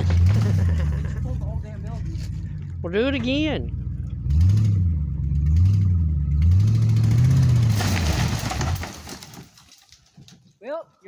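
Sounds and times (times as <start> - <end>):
truck engine revving: 0.0 - 9.5.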